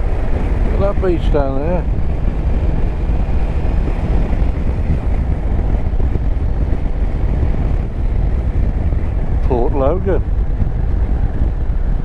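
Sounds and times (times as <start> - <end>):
motorcycle engine: 0.0 - 12.0
wind rush on microphone: 0.0 - 12.0.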